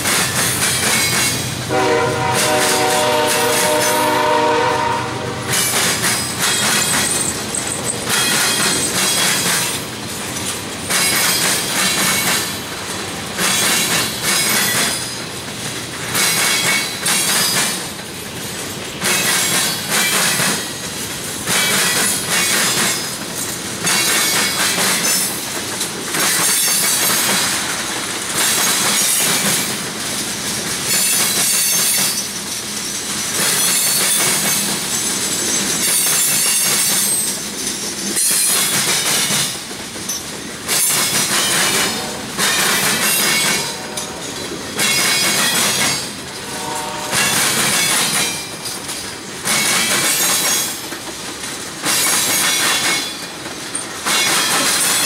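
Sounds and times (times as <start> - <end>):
train wheels clattering over crossing: 0.0 - 55.0.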